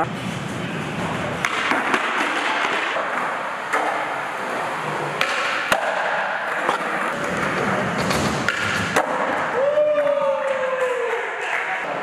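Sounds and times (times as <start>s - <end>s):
skateboard wheels rolling on concrete: 0.1s - 12.0s
skateboard clacks: 1.0s - 12.0s.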